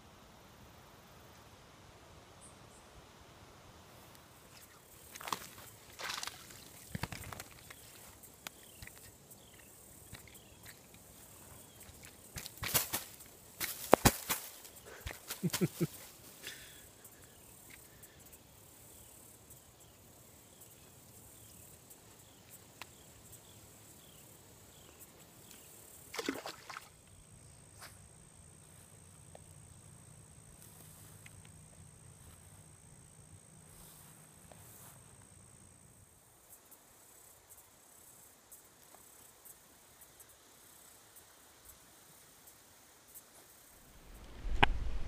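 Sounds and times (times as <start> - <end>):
insect high thin buzz: 0.0 - 45.0
insects chirping: 0.0 - 45.0.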